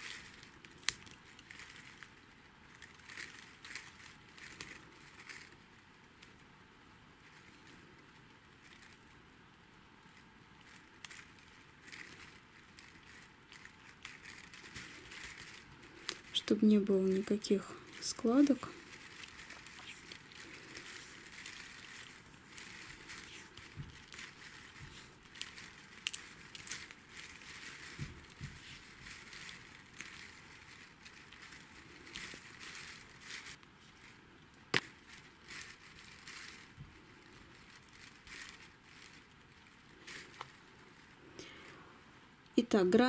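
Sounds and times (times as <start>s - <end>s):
electrical tape crackling: 0.0s - 43.0s
rustling: 0.0s - 43.0s.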